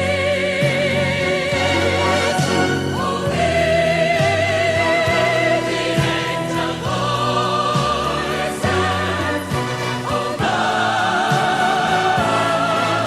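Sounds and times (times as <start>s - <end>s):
choir singing: 0.0s - 13.0s
orchestra playing: 0.0s - 13.0s.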